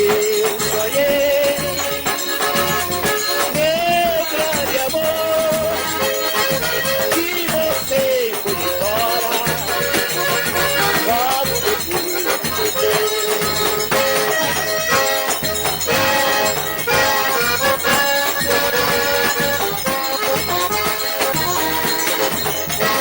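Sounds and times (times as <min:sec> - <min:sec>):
accordion chords and melody: 0:00.0 - 0:23.0
shaker rattling: 0:00.0 - 0:23.0.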